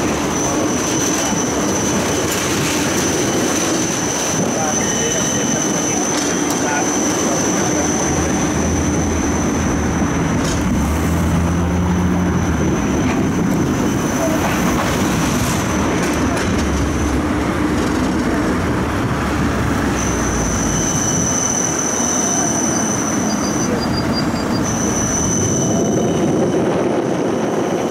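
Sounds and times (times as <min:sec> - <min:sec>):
tram wheels on rail: 0:00.0 - 0:27.9.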